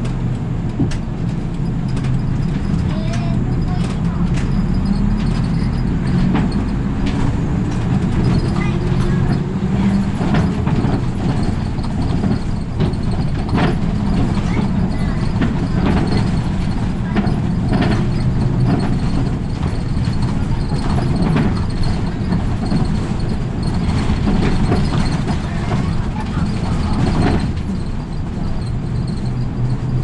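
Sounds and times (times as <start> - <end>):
bus engine and road rumble: 0.0 - 30.0
rattles and knocks in bus interior: 0.0 - 30.0.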